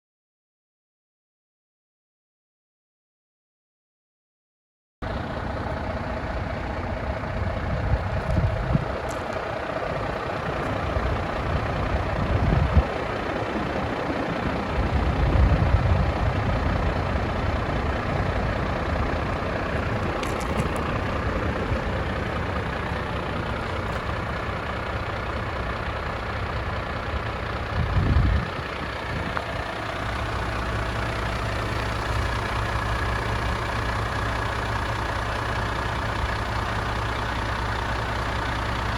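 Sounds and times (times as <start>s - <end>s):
truck diesel engine idling: 5.0s - 38.9s.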